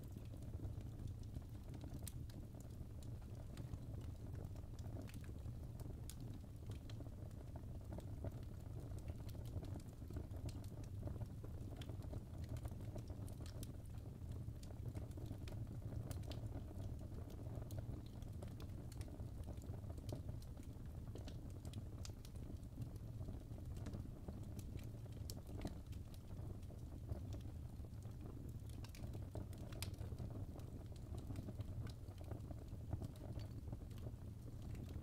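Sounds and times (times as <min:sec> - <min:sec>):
fire crackling and popping: 0:00.0 - 0:35.0
low rumble of burning: 0:00.0 - 0:35.0.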